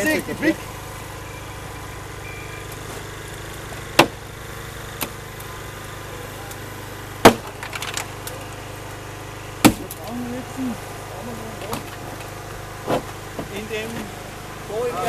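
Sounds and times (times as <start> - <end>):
hydraulic pump engine hum: 0.0 - 15.0.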